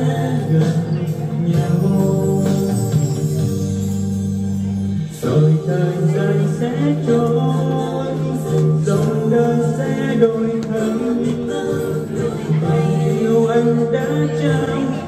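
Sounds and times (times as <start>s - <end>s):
man singing into microphone: 0.0s - 3.5s, 5.1s - 15.0s
instrumental backing through speaker: 0.0s - 15.0s.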